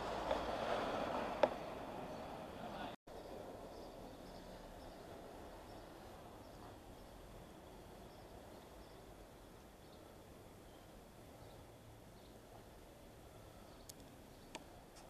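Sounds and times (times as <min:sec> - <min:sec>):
small birds chirping: 0:01.6 - 0:15.0.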